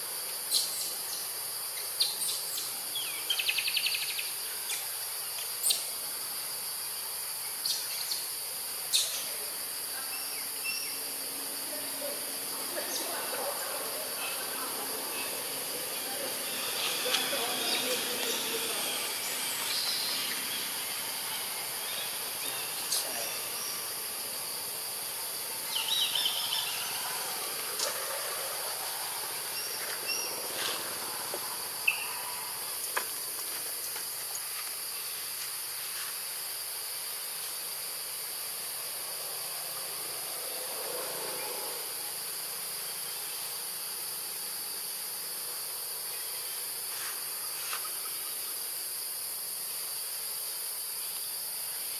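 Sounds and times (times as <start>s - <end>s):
insects droning: 0.0s - 51.9s.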